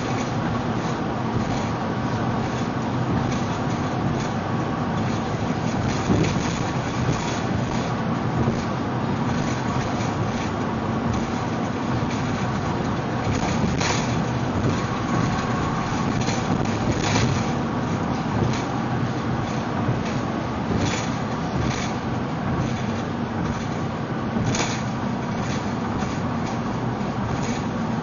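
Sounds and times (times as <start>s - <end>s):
car road noise from inside cabin: 0.0s - 28.0s.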